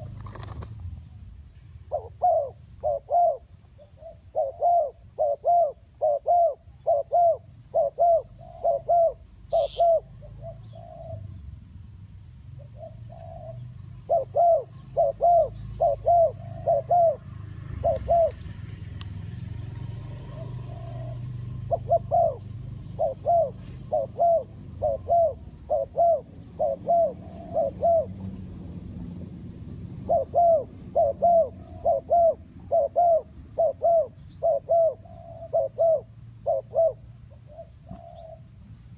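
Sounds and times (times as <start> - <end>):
dove cooing: 1.9 - 11.4, 12.6 - 18.7, 19.8 - 28.5, 29.9 - 38.6.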